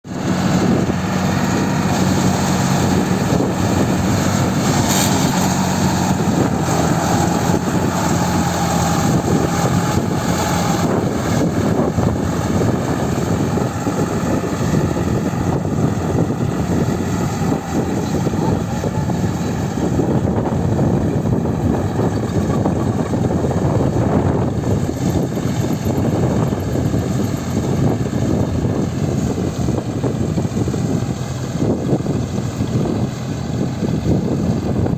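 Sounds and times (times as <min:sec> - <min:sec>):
tractor diesel engine droning: 0:00.0 - 0:34.9.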